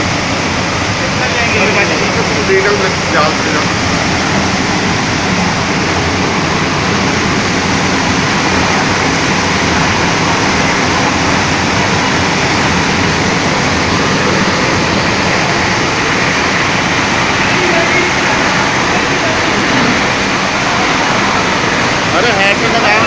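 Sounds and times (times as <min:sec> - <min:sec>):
sump pump running: 0:00.0 - 0:23.0.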